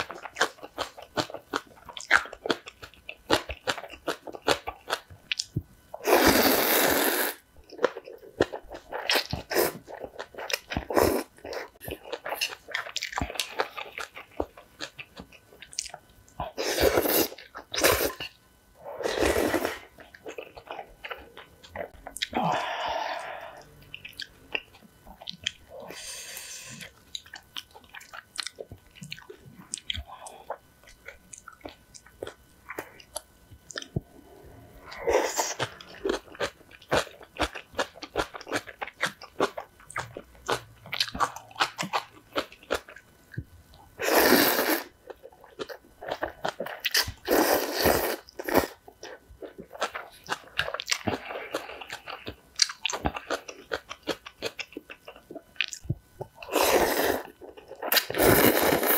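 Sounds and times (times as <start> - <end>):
person chewing noodles: 0.0 - 43.4, 44.0 - 58.9.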